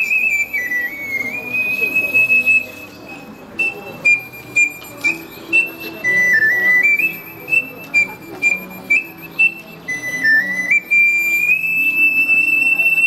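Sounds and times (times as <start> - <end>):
ocarina melody: 0.0 - 13.0.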